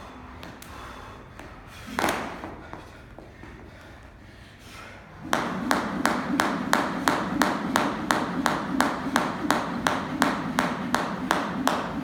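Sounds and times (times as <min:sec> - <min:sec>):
jump rope slapping floor: 0:00.4 - 0:03.6, 0:05.2 - 0:12.0.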